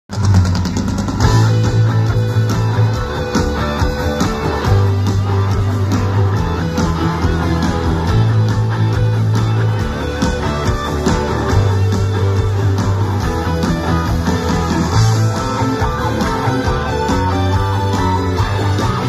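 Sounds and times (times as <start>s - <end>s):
drums: 0.0s - 19.0s
bass long low notes: 0.1s - 19.0s
electric guitars strumming: 0.1s - 19.0s.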